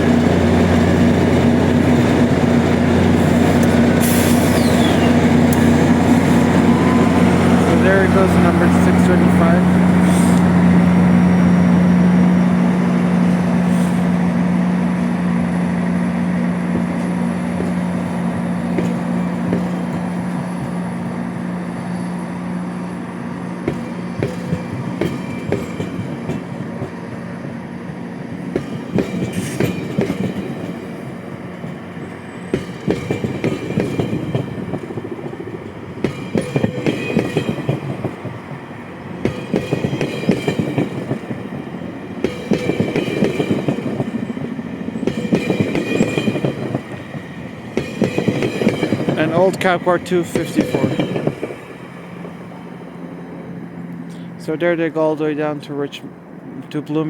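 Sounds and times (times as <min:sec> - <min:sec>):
train wheels clattering on rails: 0:00.0 - 0:54.4
diesel locomotive drone: 0:00.0 - 0:57.0.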